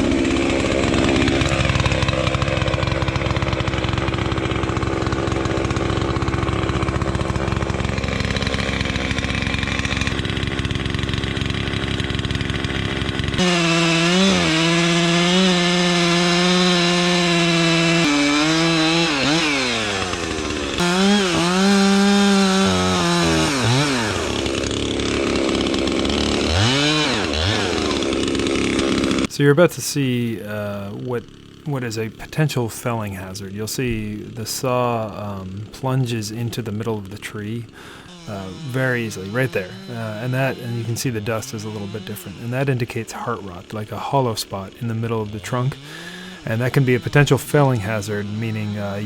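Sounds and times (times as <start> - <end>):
chainsaw cutting wood: 0.0 - 29.4, 30.6 - 49.0.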